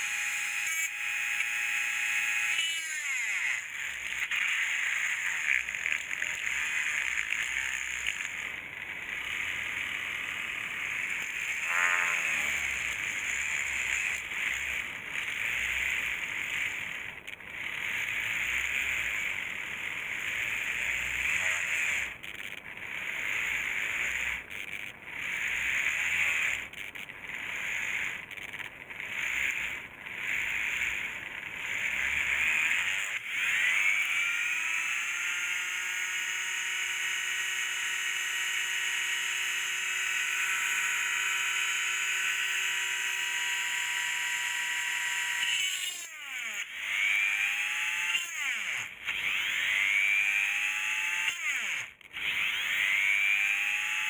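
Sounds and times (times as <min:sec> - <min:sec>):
small electric motor whining: 0:00.0 - 0:54.0.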